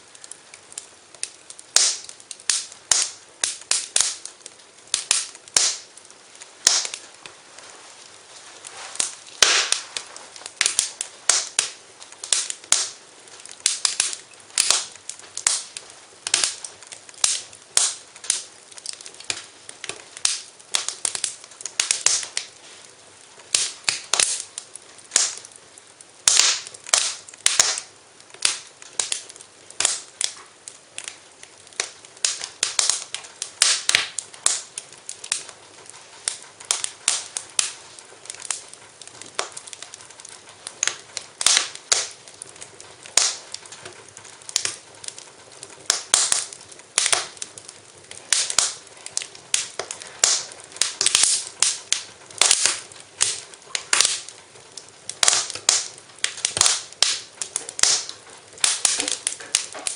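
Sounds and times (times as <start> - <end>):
faint hiss: 0.0 - 59.9
sharp pops of fire: 0.0 - 59.9
wood fire crackling: 0.0 - 59.9.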